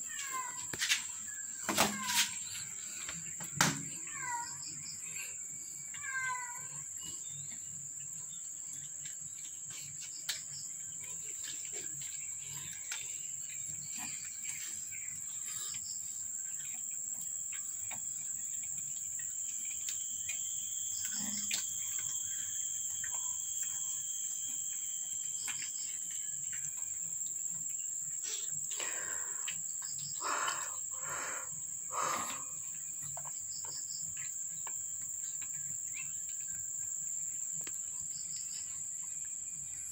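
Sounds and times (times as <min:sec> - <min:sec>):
insects droning high-pitched: 0:00.0 - 0:39.9.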